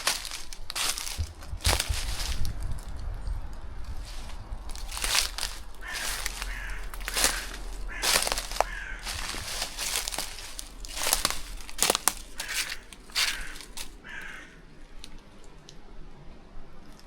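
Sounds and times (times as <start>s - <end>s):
footsteps crunching on dry ground: 0.0s - 3.2s, 3.8s - 14.5s.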